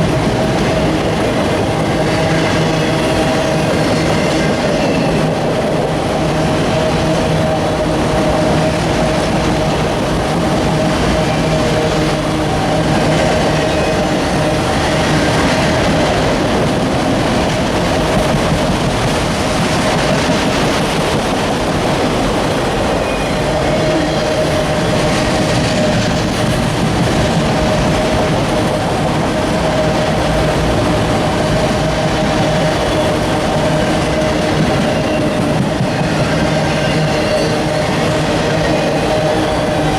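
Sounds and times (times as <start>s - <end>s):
train cars clattering over track: 0.0s - 39.9s.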